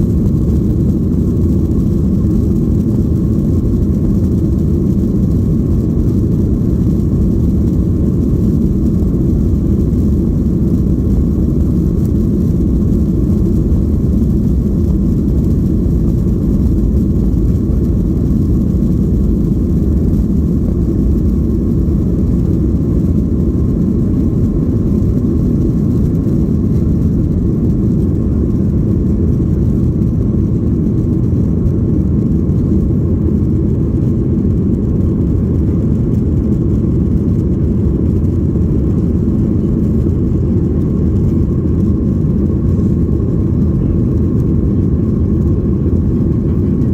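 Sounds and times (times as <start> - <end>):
jet engines roaring: 0.0 - 46.9.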